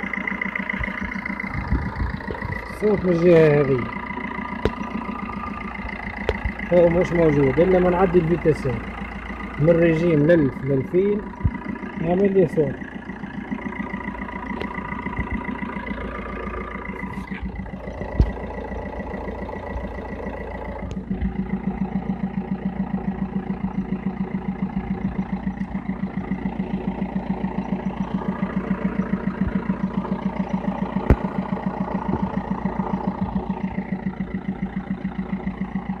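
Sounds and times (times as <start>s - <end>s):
diesel car engine running: 0.0s - 36.0s
rhythmic pulsing engine noise: 0.0s - 36.0s.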